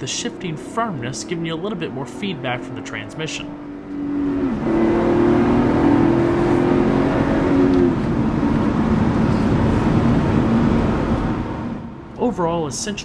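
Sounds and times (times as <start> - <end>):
car engine accelerating: 0.0 - 12.2.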